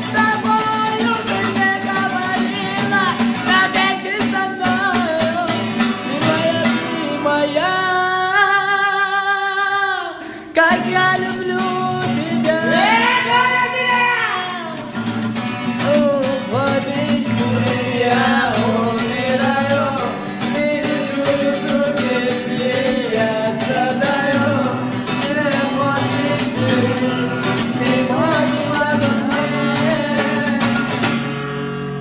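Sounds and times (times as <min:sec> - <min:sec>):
person singing with vibrato: 0:00.0 - 0:31.4.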